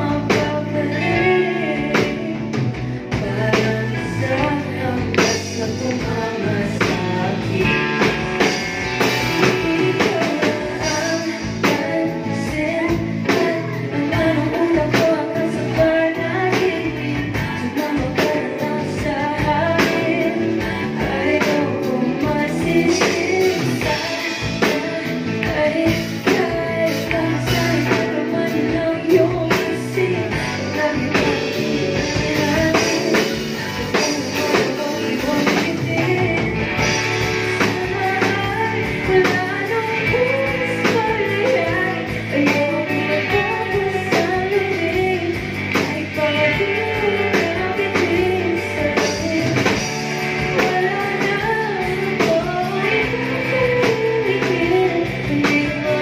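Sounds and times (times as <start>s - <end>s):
drum kit: 0.0s - 56.0s
electric bass: 0.0s - 56.0s
electric guitar: 0.0s - 56.0s
keyboard: 0.0s - 56.0s
woman singing: 0.0s - 56.0s.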